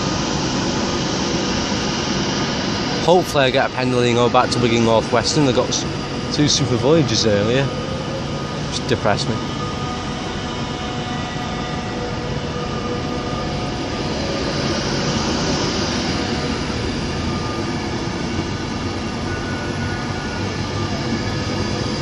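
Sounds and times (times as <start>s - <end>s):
electric train rail rumble: 0.0s - 22.0s
faint whining tones: 0.0s - 22.0s.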